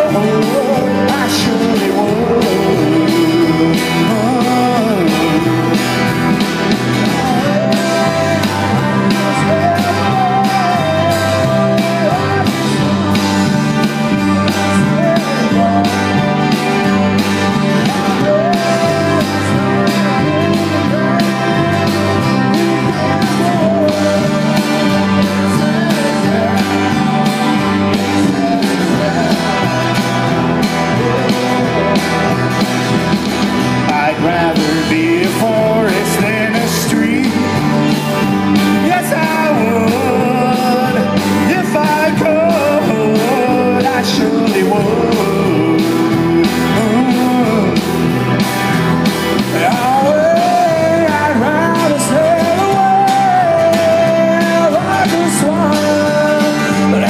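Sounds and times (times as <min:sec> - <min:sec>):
live band playing: 0:00.0 - 0:57.0
man singing: 0:00.0 - 0:57.0.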